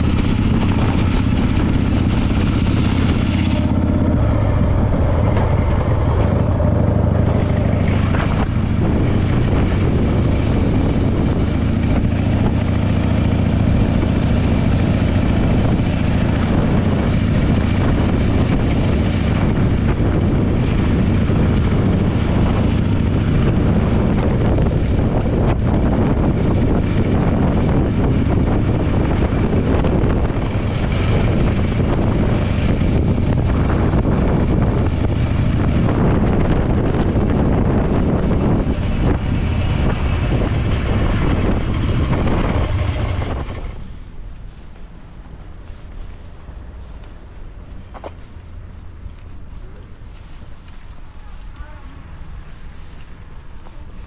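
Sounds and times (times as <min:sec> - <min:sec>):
motorcycle engine running: 0:00.0 - 0:44.9
wind on microphone: 0:00.0 - 0:54.0.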